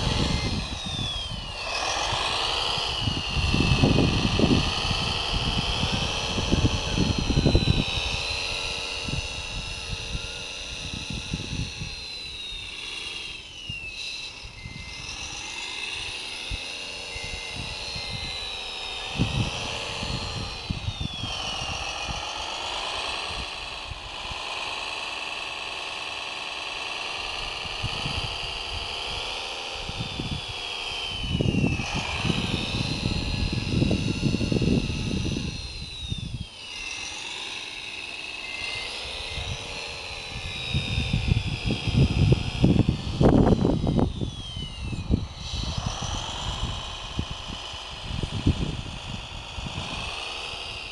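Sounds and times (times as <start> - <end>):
wind rumbling on microphone: 0.0 - 24.6, 27.2 - 36.9, 38.5 - 50.9
toy loader motor whine: 0.0 - 50.9.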